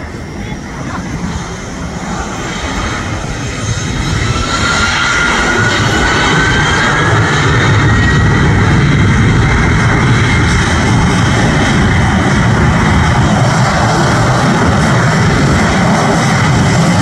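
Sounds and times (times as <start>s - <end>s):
jet engines spooling up: 0.0s - 17.0s
low rumble: 0.0s - 17.0s.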